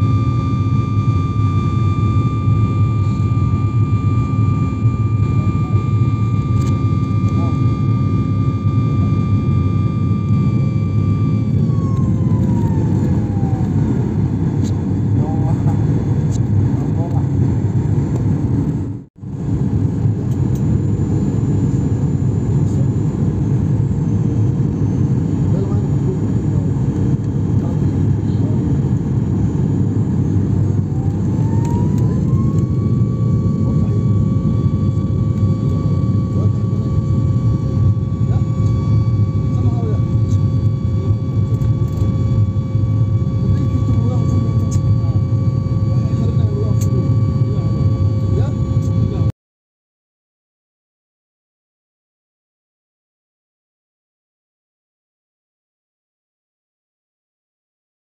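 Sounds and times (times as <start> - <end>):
high jet engine whine: 0.0 - 49.3
low rumble of engine and air: 0.0 - 49.3.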